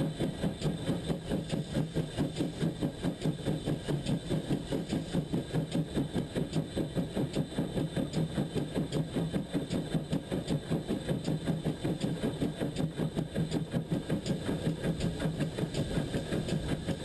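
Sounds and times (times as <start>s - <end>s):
steam locomotive rhythmic beat: 0.0s - 17.0s.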